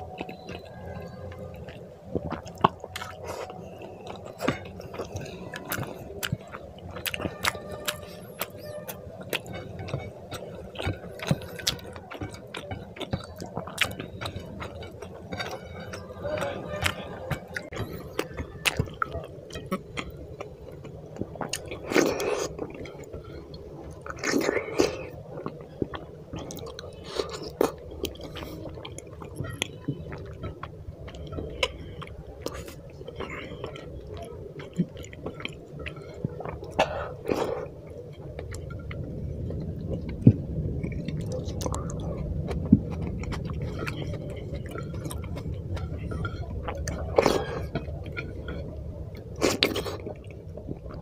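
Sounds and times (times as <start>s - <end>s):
chewing and mouth clicks: 0.0s - 51.0s.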